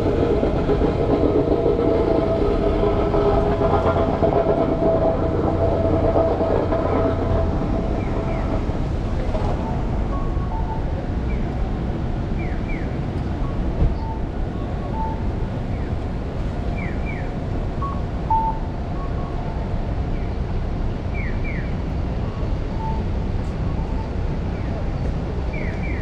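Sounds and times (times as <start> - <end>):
passing train droning: 0.0 - 26.0
street noise: 0.0 - 26.0.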